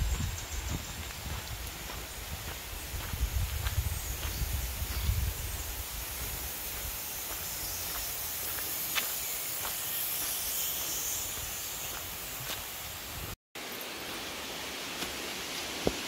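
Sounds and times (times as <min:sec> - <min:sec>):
insect chorus hiss: 0:00.0 - 0:16.0.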